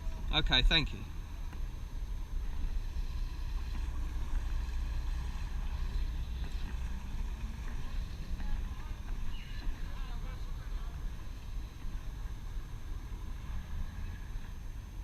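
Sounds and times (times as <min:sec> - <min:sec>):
low rumble on boat: 0:00.0 - 0:15.0.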